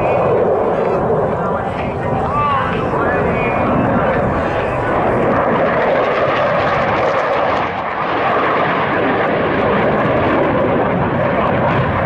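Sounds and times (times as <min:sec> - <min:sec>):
jet fighter flying overhead: 0:00.0 - 0:12.0.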